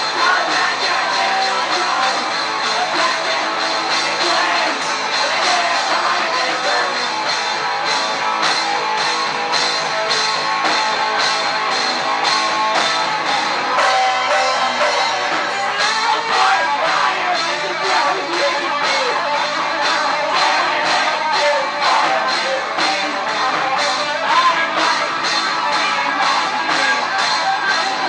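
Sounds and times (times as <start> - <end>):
drum kit steady beat: 0.0 - 28.0
electric guitar: 0.0 - 28.0.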